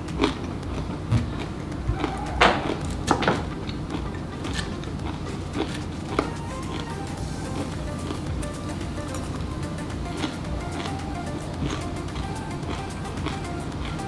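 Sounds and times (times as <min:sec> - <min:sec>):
chewing crisp salad: 0:00.0 - 0:14.0.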